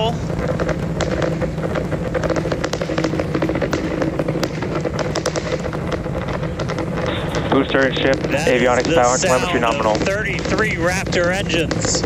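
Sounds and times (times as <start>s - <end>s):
rocket engines roaring and crackling: 0.0s - 12.0s.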